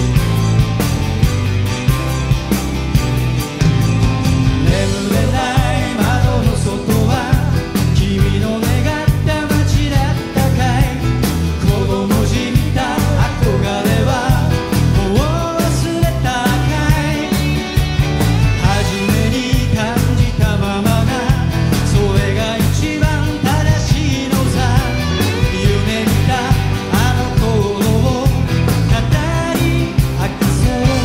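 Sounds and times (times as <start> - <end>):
rock band playing: 0.0 - 31.0
man singing: 4.6 - 31.0.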